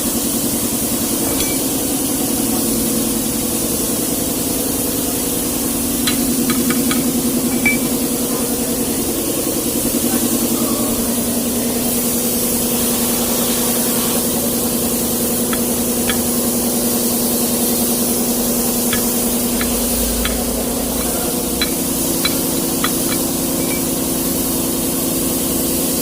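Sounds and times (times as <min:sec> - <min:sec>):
continuous hiss: 0:00.0 - 0:26.0
engine running: 0:00.1 - 0:26.0.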